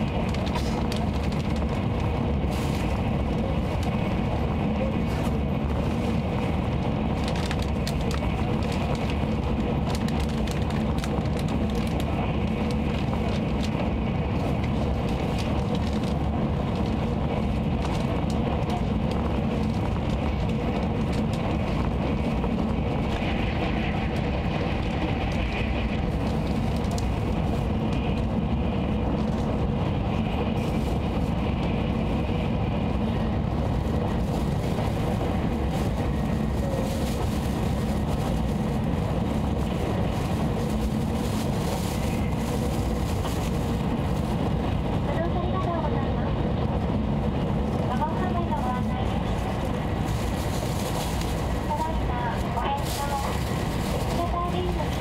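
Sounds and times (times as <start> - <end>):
passing train: 0.0 - 55.0
train running rumble and hiss: 0.0 - 55.0.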